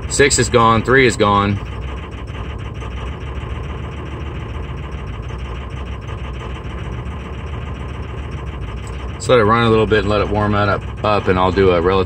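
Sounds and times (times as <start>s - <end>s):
diesel engine idling rough: 0.0s - 12.0s
faint rapid ticking: 0.0s - 12.0s.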